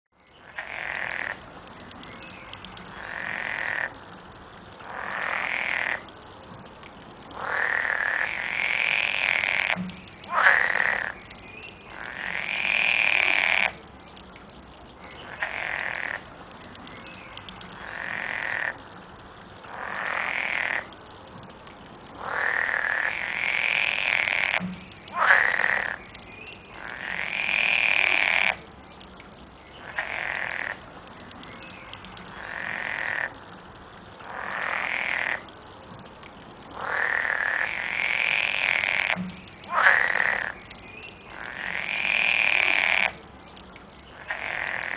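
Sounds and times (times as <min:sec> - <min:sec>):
frogs croaking: 0:00.2 - 0:44.9.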